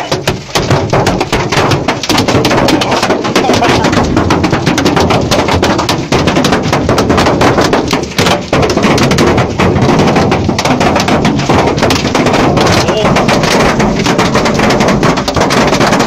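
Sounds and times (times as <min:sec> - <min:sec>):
hail pelting a car: 0:00.0 - 0:16.0.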